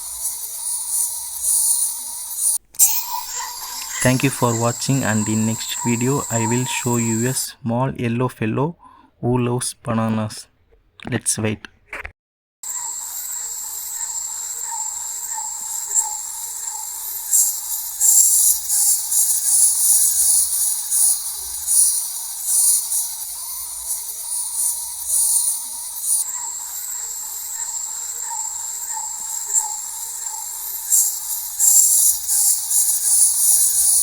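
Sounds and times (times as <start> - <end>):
clockwork toy whirring: 0.0 - 7.5, 12.6 - 34.0.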